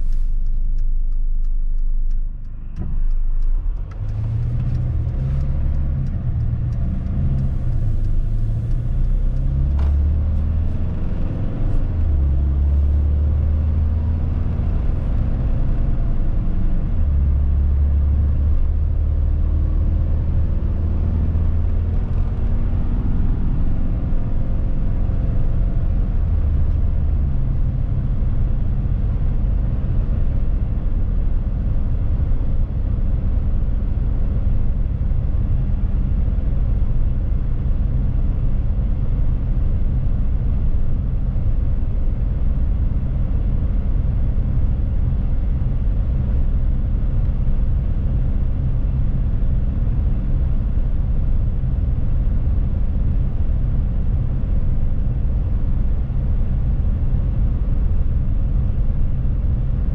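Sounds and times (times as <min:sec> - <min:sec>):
van engine and road rumble: 0:00.0 - 0:59.9.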